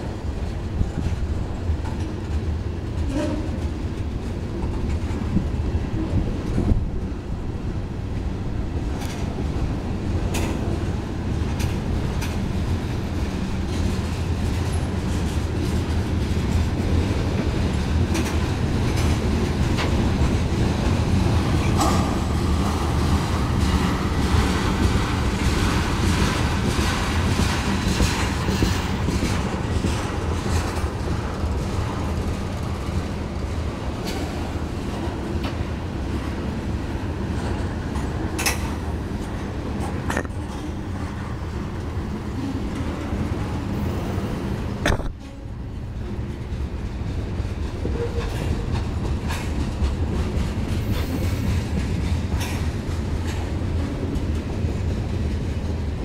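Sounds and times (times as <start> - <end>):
train rumbling past: 0.0 - 56.0
wheels clicking over rail joints: 0.3 - 7.0, 8.8 - 43.9, 44.8 - 56.0.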